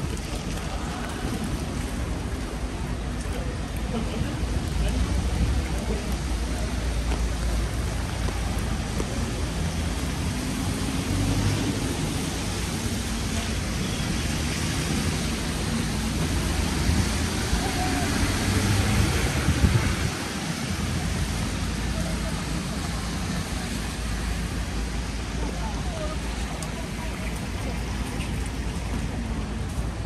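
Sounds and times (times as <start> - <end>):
rain hiss: 0.0 - 27.2
traffic rumble: 0.0 - 30.0
wet road noise: 0.0 - 30.0.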